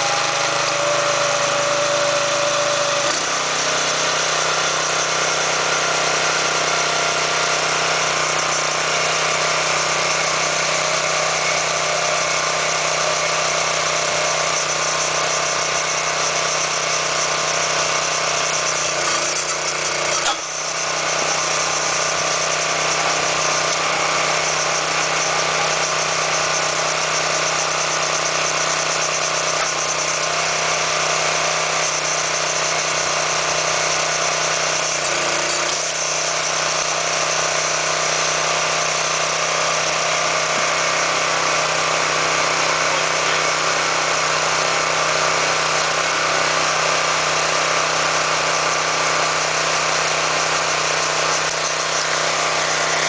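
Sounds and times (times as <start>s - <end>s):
small gasoline engine running: 0.0s - 53.0s.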